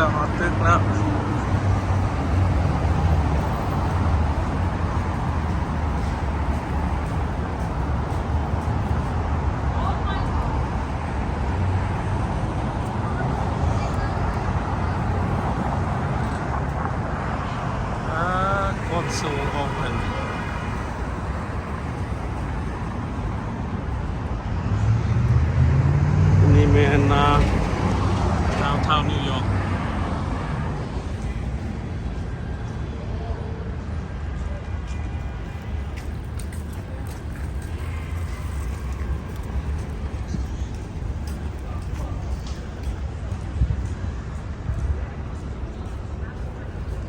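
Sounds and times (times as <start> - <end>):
city street noise: 0.0 - 47.0.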